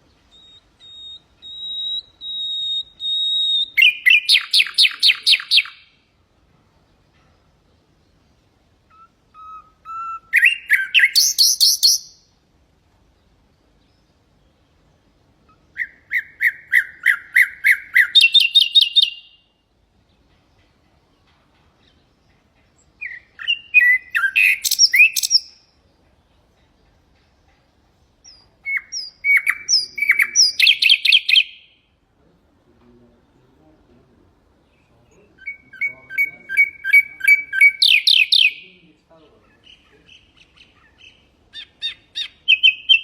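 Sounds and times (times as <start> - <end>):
nightingale singing: 0.0 - 32.0, 32.9 - 43.0.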